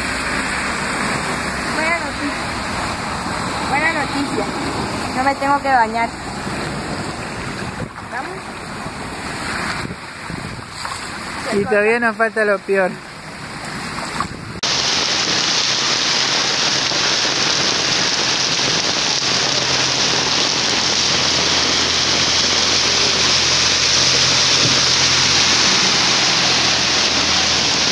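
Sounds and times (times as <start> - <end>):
heavy rain hissing: 0.0 - 12.1, 14.5 - 27.9.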